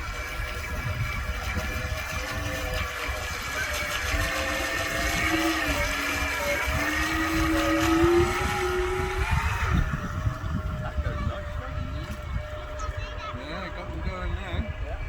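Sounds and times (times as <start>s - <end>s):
model boat motor whine: 0.0s - 15.0s.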